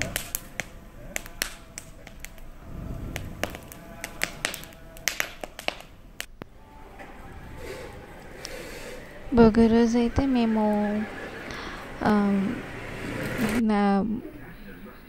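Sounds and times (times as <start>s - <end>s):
bonfire crackling and popping: 0.0s - 13.6s.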